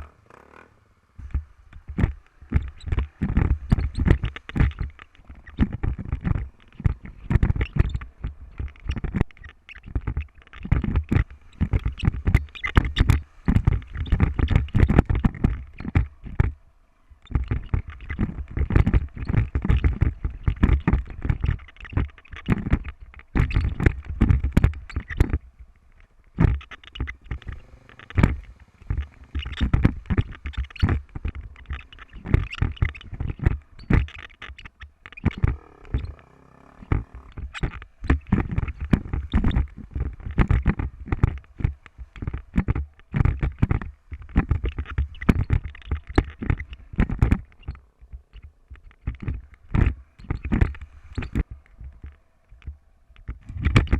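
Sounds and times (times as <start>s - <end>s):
camera knocking and rattling: 1.2s - 53.9s.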